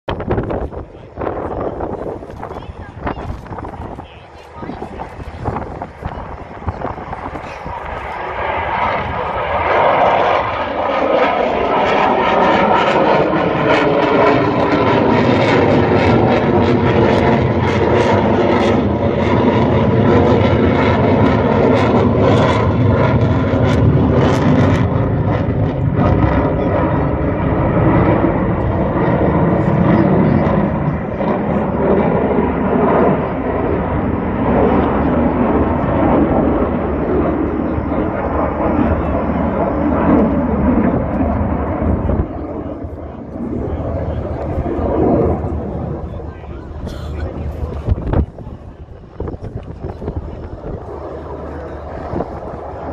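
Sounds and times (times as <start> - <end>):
fighter jet flying past: 0.1 - 52.9.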